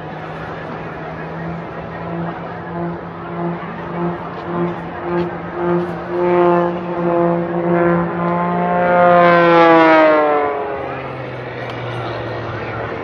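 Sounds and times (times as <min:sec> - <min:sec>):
propeller plane flyby: 0:00.0 - 0:13.0.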